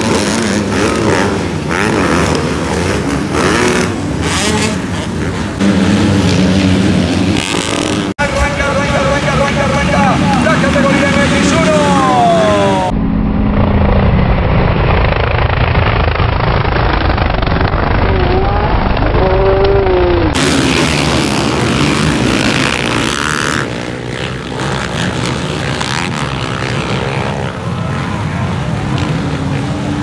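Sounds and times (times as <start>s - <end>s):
engines revving: 0.0s - 30.0s
motocross bikes racing: 0.0s - 30.0s.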